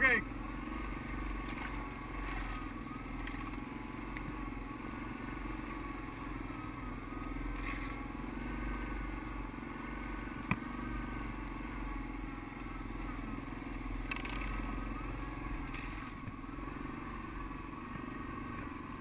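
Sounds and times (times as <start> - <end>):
quad engine running under load: 0.0 - 19.0.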